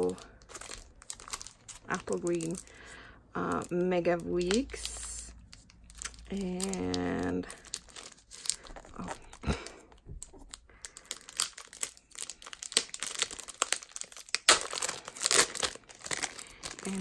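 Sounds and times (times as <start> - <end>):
plastic shrink wrap crinkling: 0.0 - 17.0.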